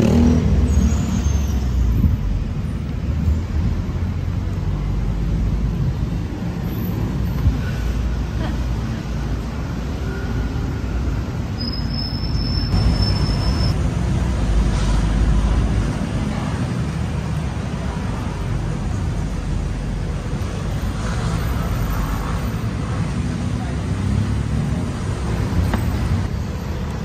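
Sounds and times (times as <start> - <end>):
passing cars and buses: 0.0 - 27.0.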